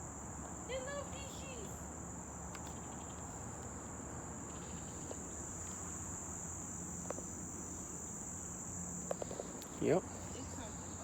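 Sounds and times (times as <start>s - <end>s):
insects trilling: 0.1s - 11.0s.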